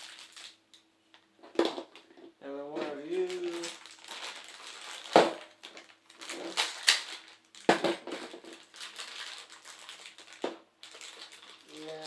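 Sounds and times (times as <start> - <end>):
plastic bag crinkling: 0.0 - 0.6, 2.8 - 12.0.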